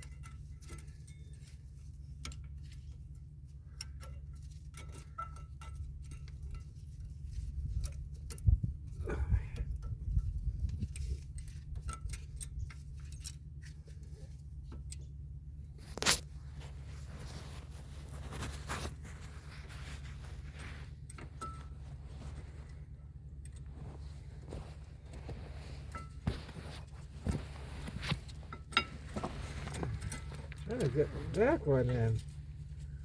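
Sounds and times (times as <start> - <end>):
low steady hum: 0.0 - 33.0
metallic clicks of brake pads: 0.0 - 33.0.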